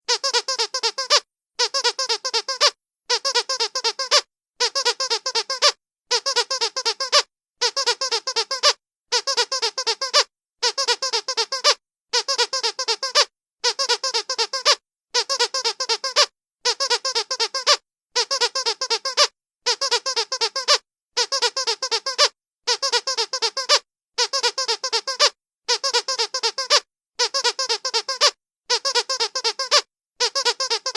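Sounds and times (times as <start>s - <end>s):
rapid high-pitched squeaks: 0.1s - 30.9s.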